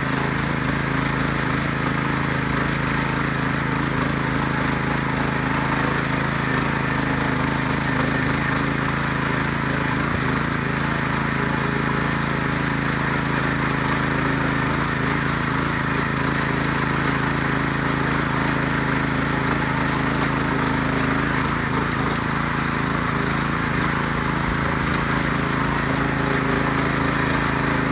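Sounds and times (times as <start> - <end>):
motor hoe engine tilling soil: 0.0 - 27.9.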